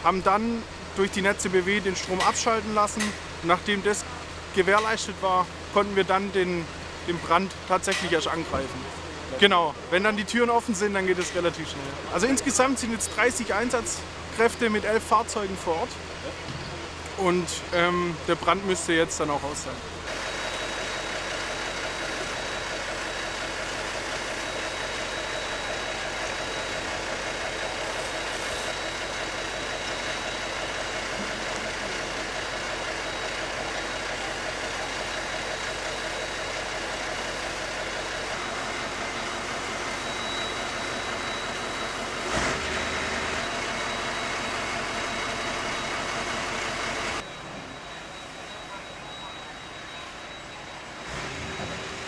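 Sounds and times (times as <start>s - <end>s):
fire engine pump running: 0.0s - 52.0s.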